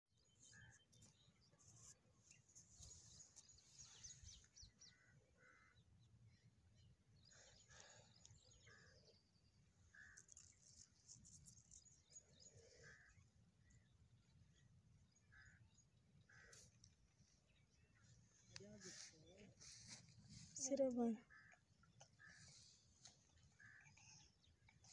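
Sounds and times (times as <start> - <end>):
distant bird chirps: 0.2 - 24.9.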